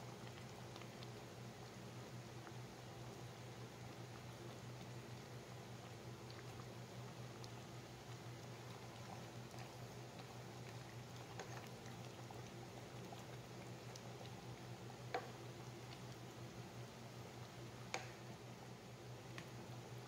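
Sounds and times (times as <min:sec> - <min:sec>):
low steady hum: 0:00.0 - 0:20.0
stew bubbling in a pot: 0:00.0 - 0:20.0.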